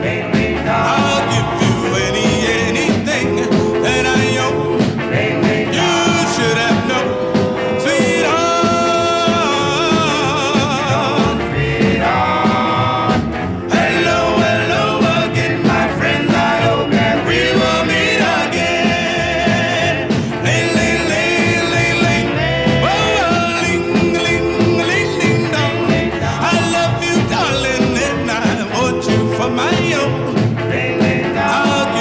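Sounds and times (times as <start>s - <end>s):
rhythm band backing: 0.0s - 32.0s
vocal group singing: 0.0s - 32.0s.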